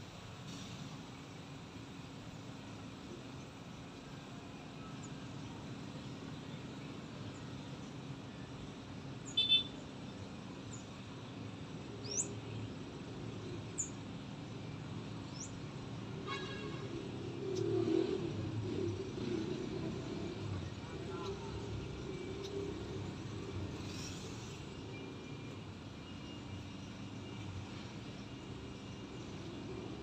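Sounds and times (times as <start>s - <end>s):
low city traffic hum: 0.0s - 30.0s.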